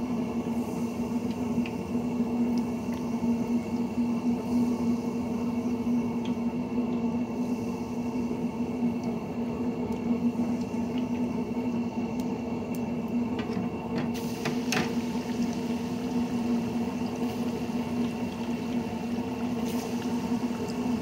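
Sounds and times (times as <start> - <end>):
oil bubbling sizzle: 0.0 - 21.0.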